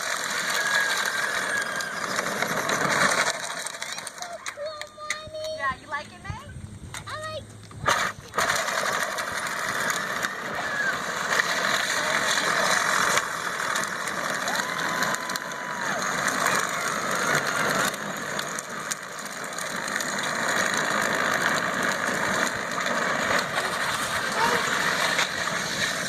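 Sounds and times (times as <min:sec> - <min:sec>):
engine running: 0:00.0 - 0:26.0.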